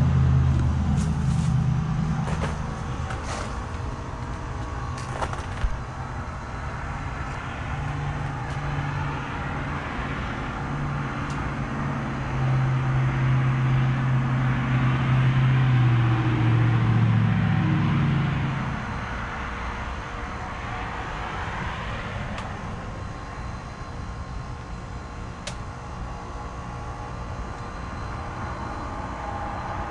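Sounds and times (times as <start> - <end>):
heat pump fan and compressor hum: 0.0 - 29.9.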